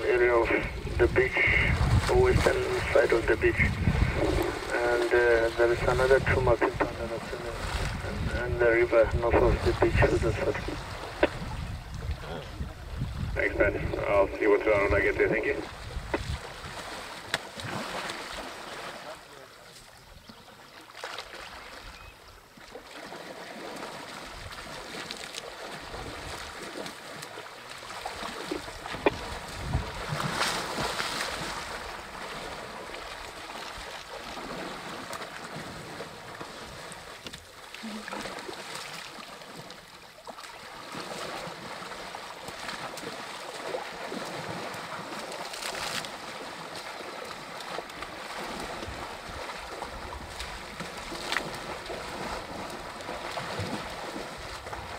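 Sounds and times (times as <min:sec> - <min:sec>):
elephants splashing in water: 0:00.0 - 0:54.9.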